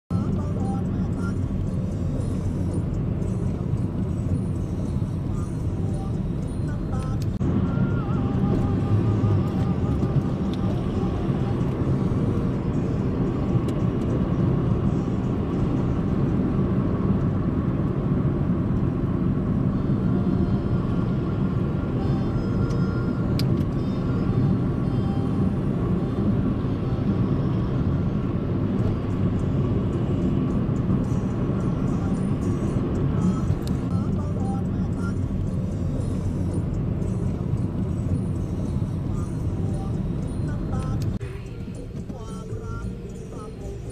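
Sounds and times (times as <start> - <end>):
vehicle driving on highway: 0.1 - 43.9.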